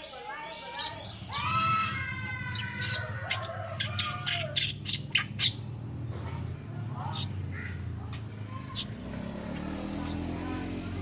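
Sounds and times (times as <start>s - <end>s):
warbler harsh chattering song: 0.0s - 10.8s.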